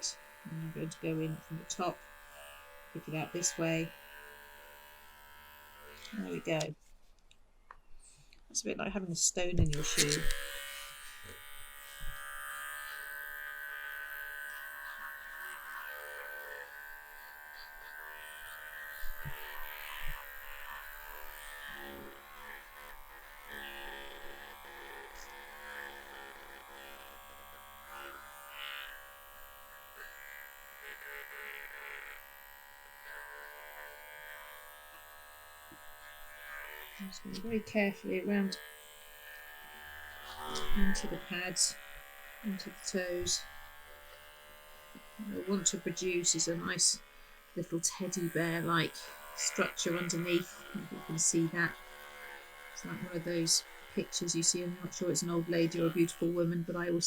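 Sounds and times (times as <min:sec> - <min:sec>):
pet clippers buzzing: 0:00.0 - 0:06.9, 0:09.5 - 0:57.0.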